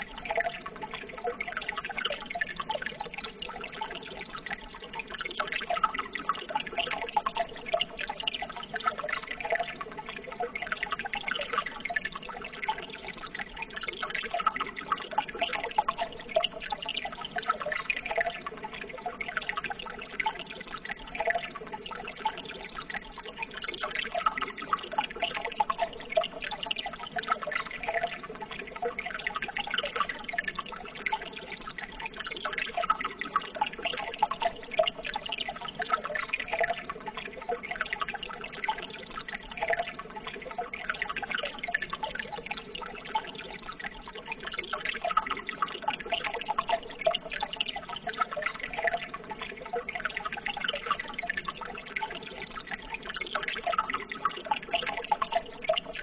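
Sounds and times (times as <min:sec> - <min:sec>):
running water trickling and splashing: 0:00.0 - 0:56.0
water dripping and gurgling: 0:00.0 - 0:56.0.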